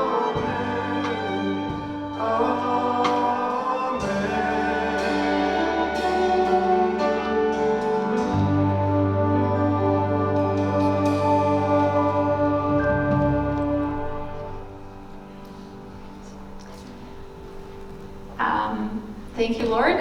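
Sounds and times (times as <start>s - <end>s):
choir singing: 0.0s - 17.2s
sustained instrumental chords: 0.0s - 20.0s.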